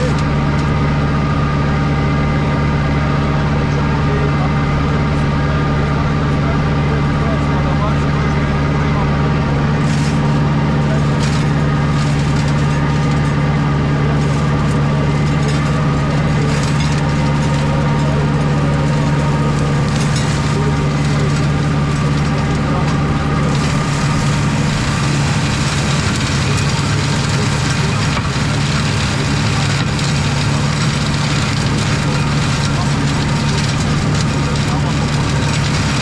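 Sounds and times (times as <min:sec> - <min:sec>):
mulcher shredding brambles: 0:00.0 - 0:36.0
tractor engine running: 0:00.0 - 0:36.0.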